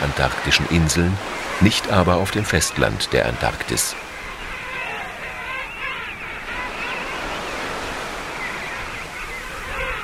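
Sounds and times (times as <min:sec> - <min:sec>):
surf washing: 0:00.0 - 0:10.0
penguins calling: 0:00.2 - 0:10.0.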